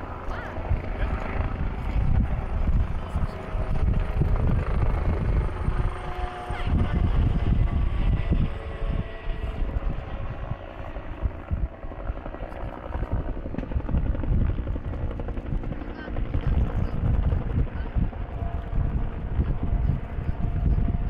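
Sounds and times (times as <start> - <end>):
helicopter flying over: 0.0 - 21.0
low rumble of vehicle engines: 0.0 - 21.0.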